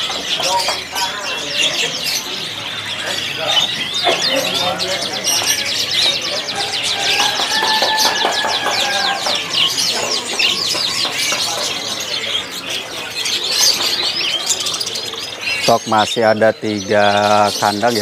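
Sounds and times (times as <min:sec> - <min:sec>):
canaries chirping: 0:00.0 - 0:18.0.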